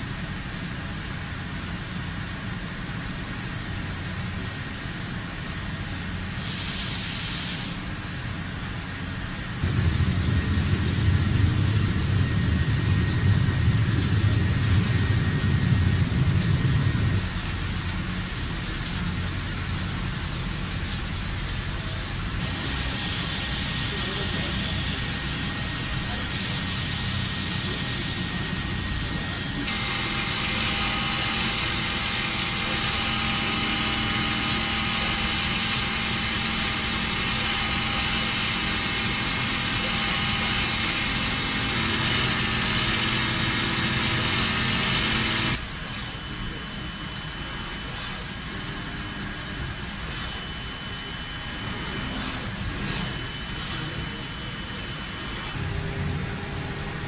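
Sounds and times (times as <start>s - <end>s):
industrial machinery whining: 9.6s - 57.0s.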